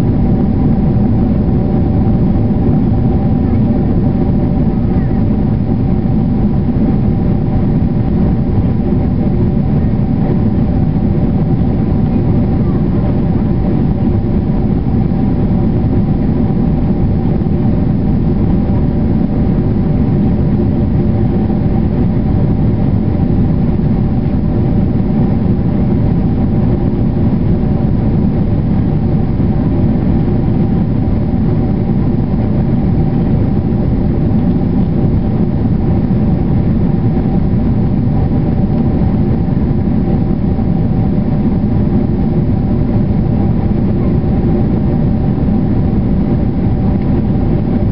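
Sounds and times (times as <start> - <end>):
constant engine tones: 0.0 - 47.9
jet engine and airflow rush: 0.0 - 47.9.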